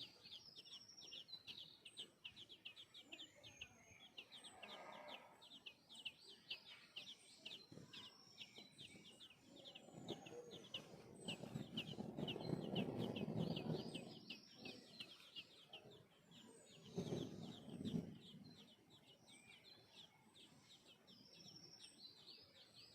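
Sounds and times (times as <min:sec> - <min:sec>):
young birds begging chirps: 0:00.0 - 0:22.9.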